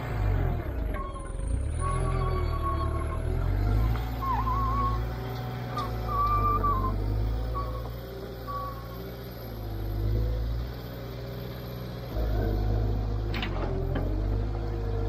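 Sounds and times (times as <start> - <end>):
diesel engine working under load: 0.0 - 15.0.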